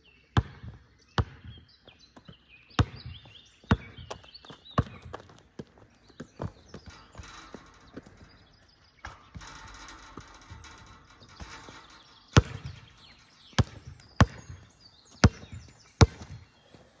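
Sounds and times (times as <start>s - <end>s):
basketball bouncing on court: 0.3s - 8.3s, 9.0s - 16.5s.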